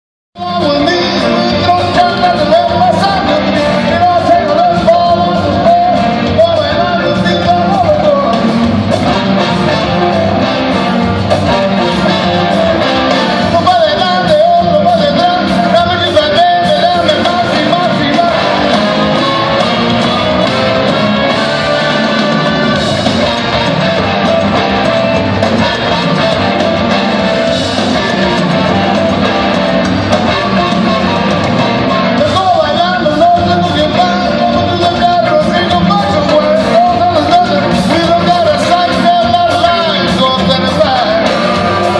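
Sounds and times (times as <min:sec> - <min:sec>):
rock band playing live: 0:00.4 - 0:41.9.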